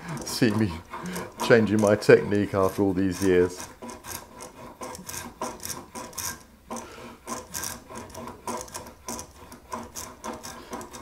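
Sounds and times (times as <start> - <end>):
spokeshave rasping on wood: 0.0 - 11.0.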